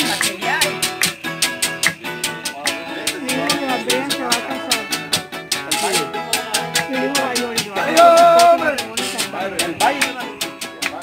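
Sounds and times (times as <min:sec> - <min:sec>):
acoustic guitars playing: 0:00.0 - 0:11.0
maraca shaking: 0:00.0 - 0:11.0.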